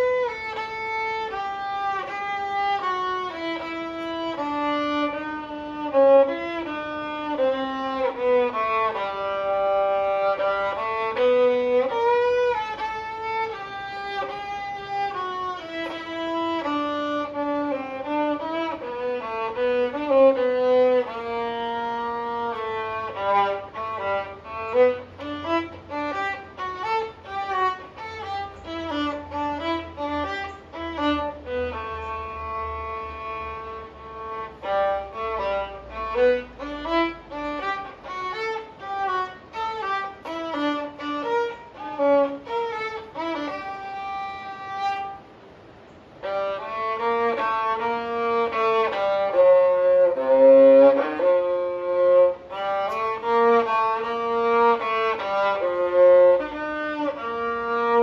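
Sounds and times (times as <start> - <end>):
bowed viola melody: 0.0 - 58.0.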